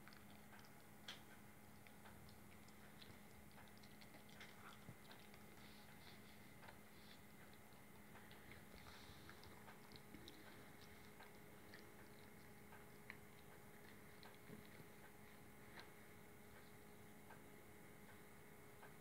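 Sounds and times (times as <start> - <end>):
puppy chewing and licking: 0.0 - 19.0.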